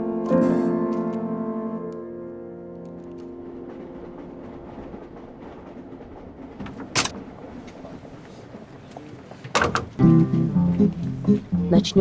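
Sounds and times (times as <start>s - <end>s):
train carriage rumble: 2.3s - 12.0s.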